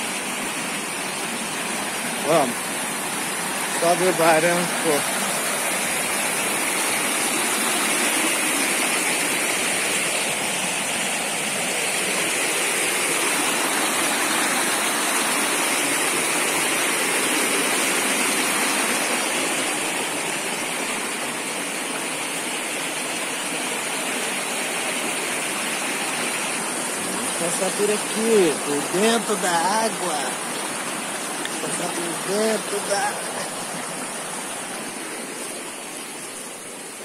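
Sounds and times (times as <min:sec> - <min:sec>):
creek rushing over rapids: 0:00.0 - 0:37.0.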